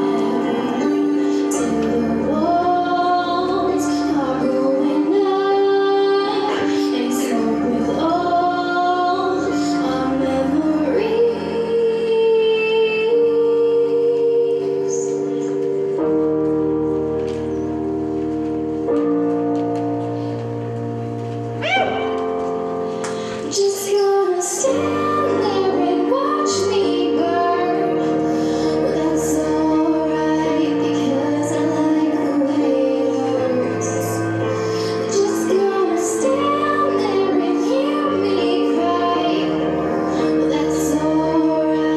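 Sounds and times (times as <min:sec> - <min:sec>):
woman singing: 0:00.0 - 0:15.4, 0:23.2 - 0:41.9
held accompaniment chords: 0:00.0 - 0:41.9.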